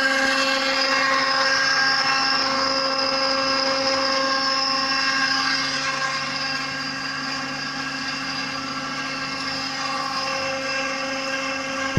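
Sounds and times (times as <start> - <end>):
cnc router spindle whine: 0.0 - 11.9.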